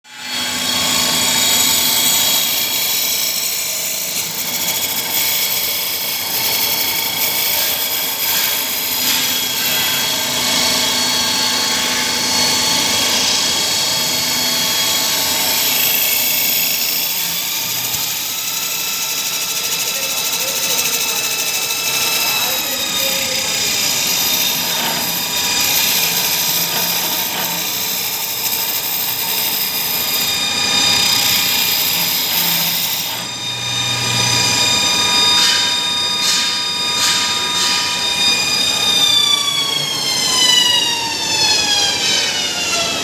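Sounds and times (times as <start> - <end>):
thin high machine whine: 0.1 - 43.0
wood lathe running: 0.1 - 43.0.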